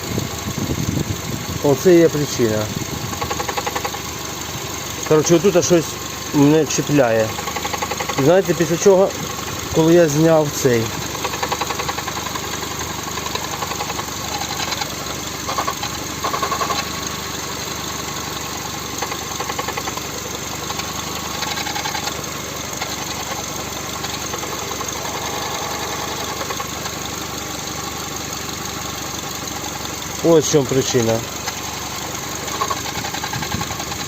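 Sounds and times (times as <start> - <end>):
car engine idling with knocking tick: 0.0 - 34.0.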